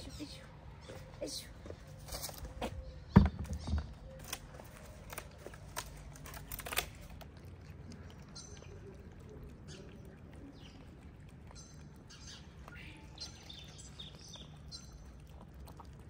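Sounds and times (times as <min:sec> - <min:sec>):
cats eating wet food: 0:00.0 - 0:03.1, 0:03.9 - 0:16.0.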